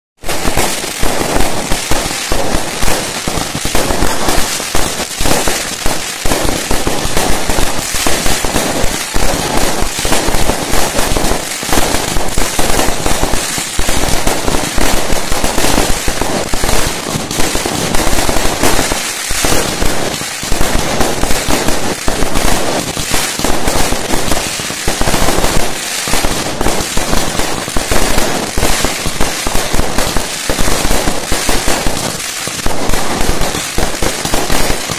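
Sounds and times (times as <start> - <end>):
fireworks bangs and crackles: 0.2 - 34.9.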